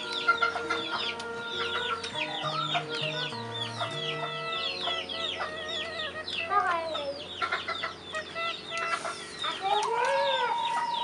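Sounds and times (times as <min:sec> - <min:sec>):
birds chirping: 0:00.0 - 0:11.0
long wavering bird call: 0:00.0 - 0:11.0.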